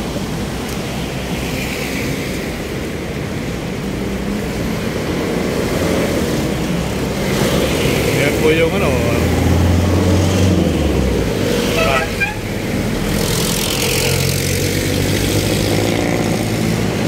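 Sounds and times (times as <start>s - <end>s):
rush of vehicles passing: 0.0s - 17.0s.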